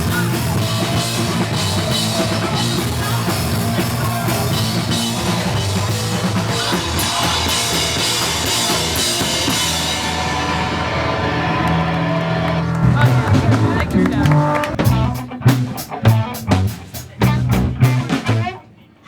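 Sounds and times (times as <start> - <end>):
punk band playing live: 0.0 - 18.7.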